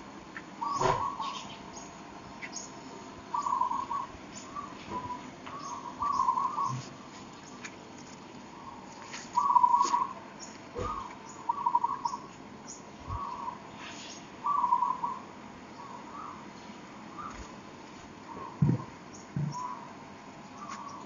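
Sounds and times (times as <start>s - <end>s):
bird warbling calls: 0.6s - 7.6s, 8.5s - 17.5s, 18.2s - 21.0s.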